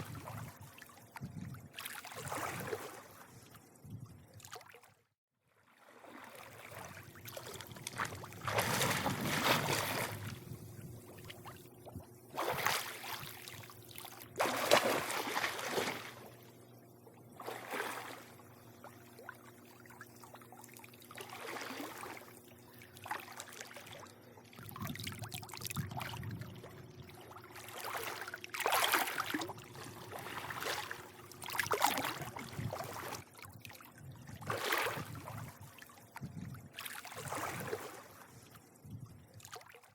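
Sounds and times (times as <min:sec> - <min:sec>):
faint steady hum: 0:00.0 - 0:04.6, 0:05.8 - 0:39.7
pool water lapping and sloshing: 0:00.0 - 0:39.9.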